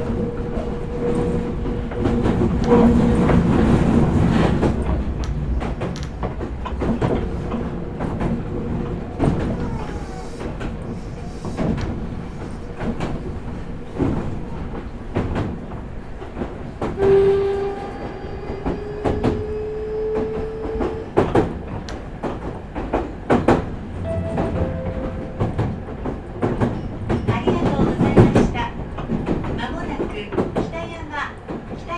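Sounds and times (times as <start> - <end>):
rail-joint clicks: 0.0 - 19.5, 20.1 - 31.9
train rumble: 0.0 - 31.9.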